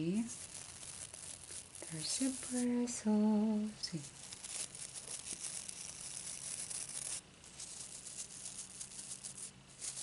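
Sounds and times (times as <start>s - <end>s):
fingertips rubbing brush bristles: 0.0s - 10.0s.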